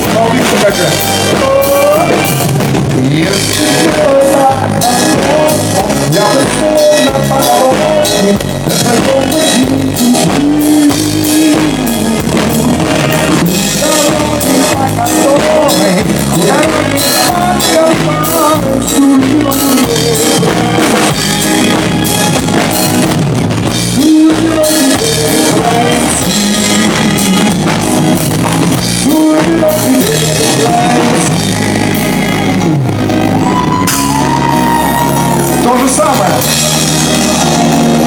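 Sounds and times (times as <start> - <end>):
drum kit beat: 0.0 - 38.0
live pop-rock band playing: 0.0 - 38.0.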